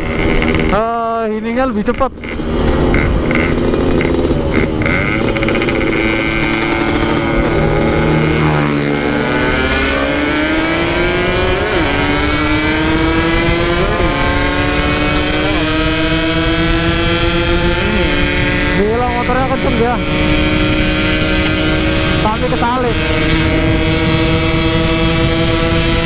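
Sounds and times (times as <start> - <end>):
engine throttle blips: 0.0 - 26.0
motorcycle engine at high revs: 0.0 - 26.0.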